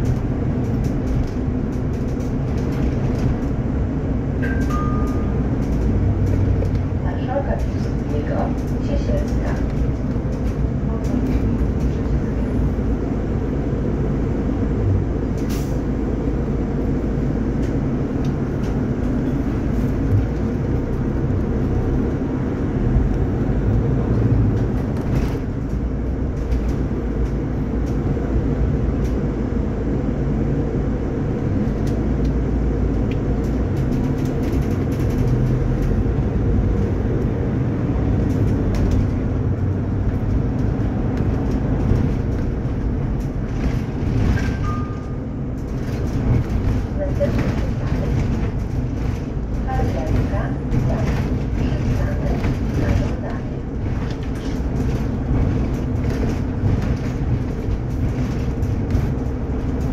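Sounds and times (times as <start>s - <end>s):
bus cabin rumble: 0.0s - 59.9s.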